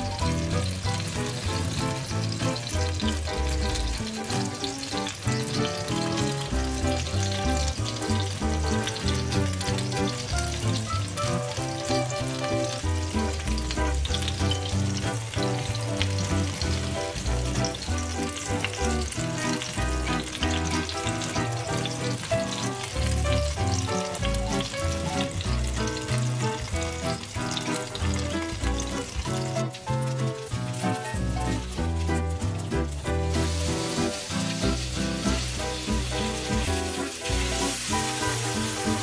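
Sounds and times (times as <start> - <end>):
background music with bass line: 0.0 - 39.0
pancakes sizzling in oil: 0.0 - 39.0.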